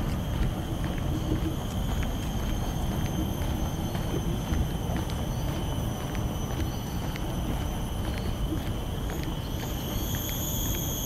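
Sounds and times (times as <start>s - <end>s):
footsteps walking: 0.0s - 11.0s
high-pitched whine: 0.0s - 11.0s
steady low rumble: 0.0s - 11.0s.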